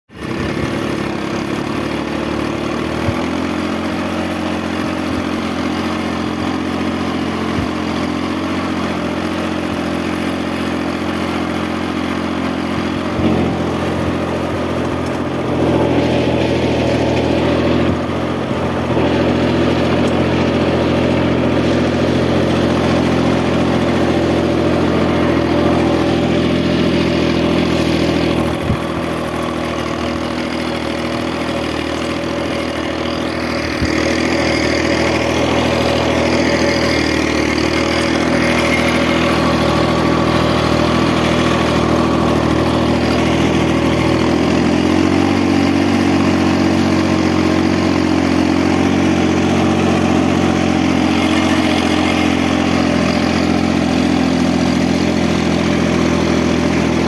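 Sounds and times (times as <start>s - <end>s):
tractor engine running: 0.1s - 57.0s.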